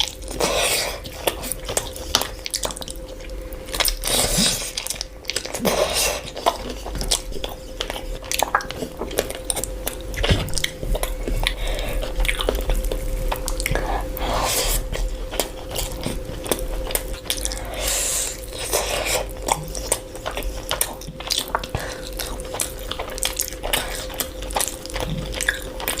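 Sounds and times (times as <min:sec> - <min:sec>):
crunchy food chewing: 0:00.0 - 0:26.0
faint steady hum: 0:00.0 - 0:26.0.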